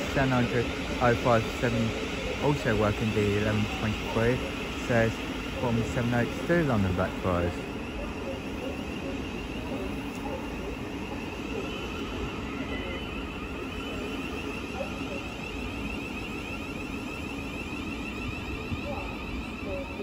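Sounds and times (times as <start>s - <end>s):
electric train rumble and whine: 0.0s - 20.0s.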